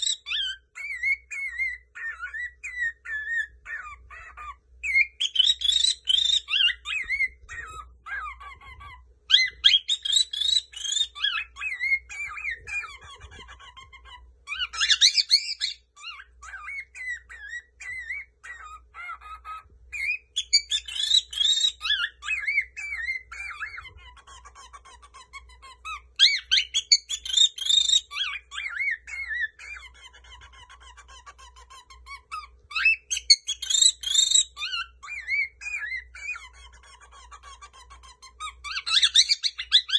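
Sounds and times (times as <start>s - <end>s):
cockatiel chattering warble: 0.0s - 39.9s
cockatiel whistling: 0.0s - 39.9s.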